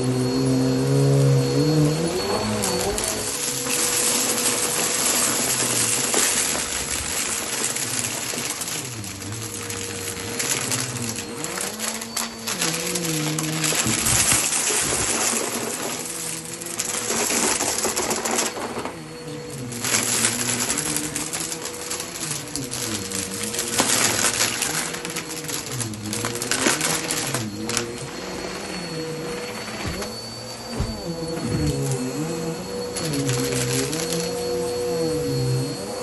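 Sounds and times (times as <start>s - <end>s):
debris crackling being sucked up: 0.0s - 35.9s
vacuum cleaner running: 0.0s - 36.0s.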